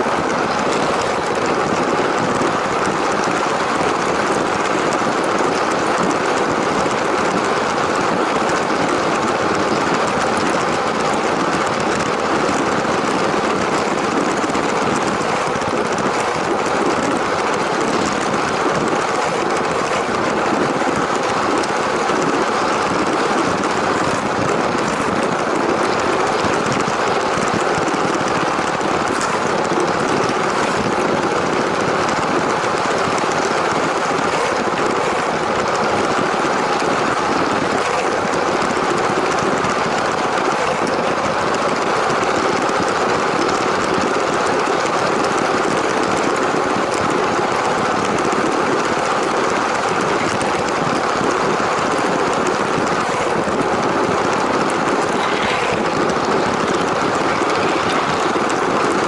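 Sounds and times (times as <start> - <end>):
toy train running on plastic track: 0.0 - 59.0.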